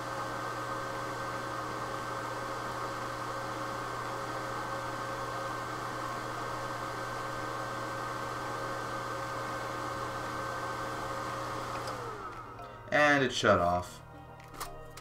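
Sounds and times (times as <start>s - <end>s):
computer fans whirring: 0.0s - 12.6s.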